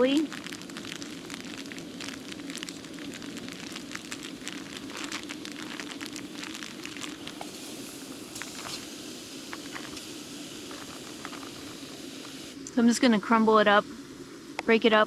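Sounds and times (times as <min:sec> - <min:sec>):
food sizzling in a frying pan: 0:00.0 - 0:12.6.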